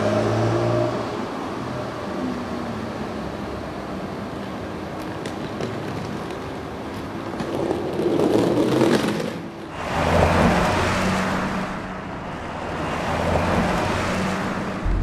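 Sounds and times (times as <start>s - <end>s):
cars passing on a road: 0.0s - 15.0s.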